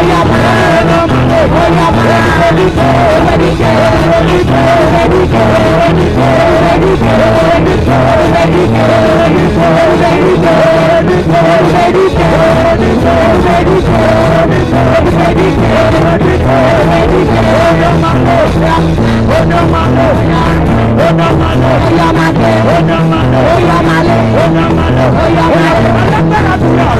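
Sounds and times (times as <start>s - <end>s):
gospel band playing: 0.0s - 26.9s.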